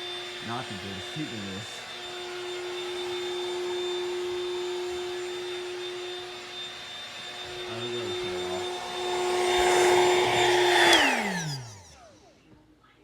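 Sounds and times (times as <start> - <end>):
electric air pump humming: 0.0 - 12.2
pump winding down: 0.0 - 12.2.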